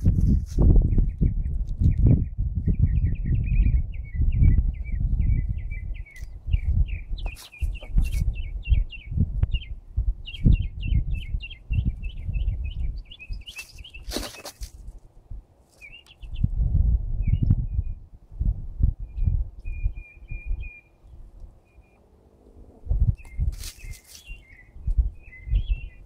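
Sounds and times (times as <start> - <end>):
songbird chirping: 0.9 - 14.8, 15.7 - 16.5, 19.0 - 26.0.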